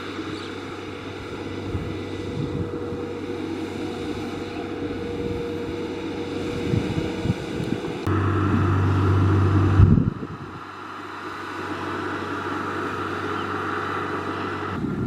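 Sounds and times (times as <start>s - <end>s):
combine harvester engine droning: 0.0s - 15.0s.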